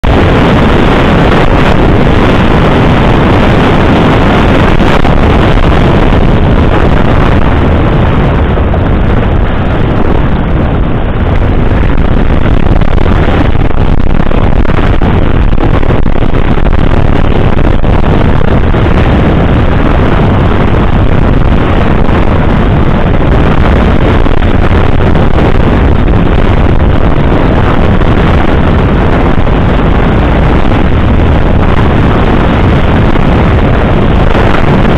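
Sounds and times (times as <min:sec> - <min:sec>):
motorcycle engine running: 0:00.0 - 0:34.9
wind buffeting microphone: 0:00.0 - 0:34.9.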